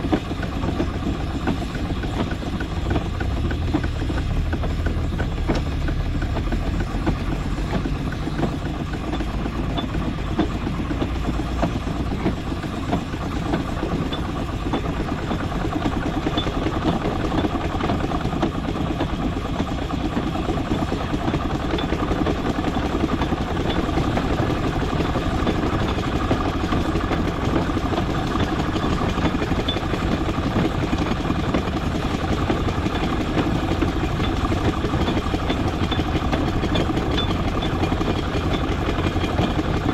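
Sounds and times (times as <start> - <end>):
steam traction engine clattering: 0.0 - 39.9.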